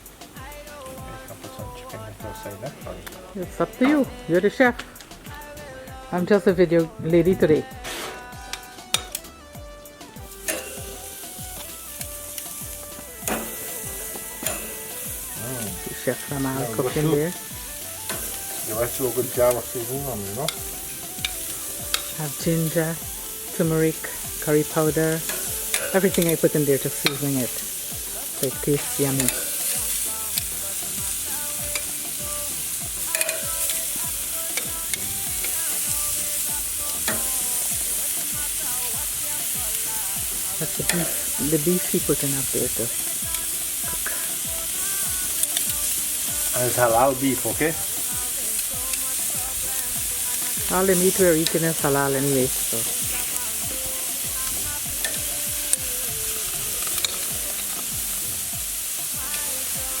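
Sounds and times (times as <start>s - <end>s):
background music with bass line: 0.0s - 60.0s
meat sizzling on a grill: 0.0s - 60.0s.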